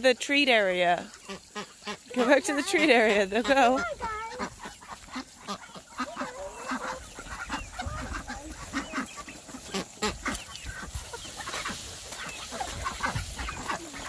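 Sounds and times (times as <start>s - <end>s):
chickens clucking: 0.0s - 14.0s
ducks quacking: 0.0s - 14.0s.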